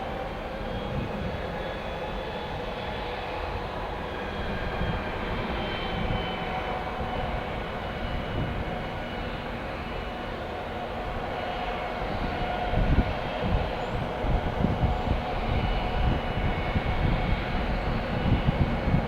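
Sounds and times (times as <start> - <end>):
jet engines rumbling with whine: 0.0 - 19.0.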